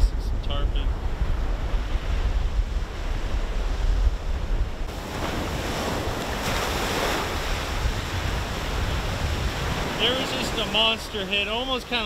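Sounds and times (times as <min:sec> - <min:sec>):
wind rumbling on microphone: 0:00.0 - 0:12.0
ocean surf breaking: 0:00.8 - 0:12.0.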